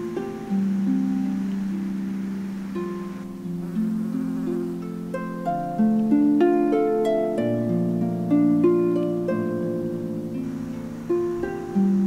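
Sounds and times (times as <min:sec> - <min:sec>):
harp melody: 0:00.0 - 0:12.0.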